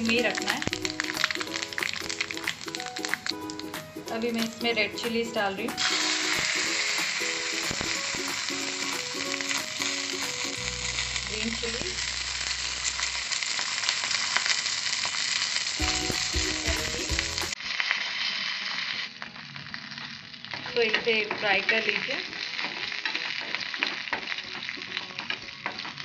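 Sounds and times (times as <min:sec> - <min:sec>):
spices sizzling in hot oil: 0:00.0 - 0:26.0.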